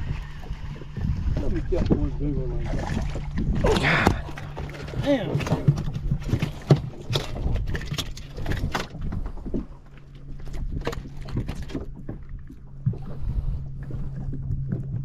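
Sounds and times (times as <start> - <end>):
fish flopping on boat deck: 0.0 - 15.0
steady low hum: 0.0 - 15.0.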